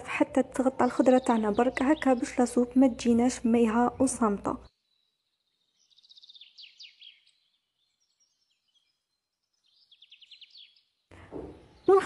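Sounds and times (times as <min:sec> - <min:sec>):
high bird chirps: 0:00.6 - 0:12.0.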